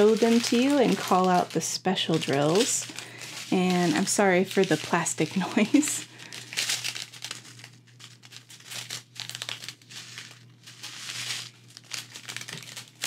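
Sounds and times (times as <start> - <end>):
plastic packets crinkling: 0.0 - 13.0.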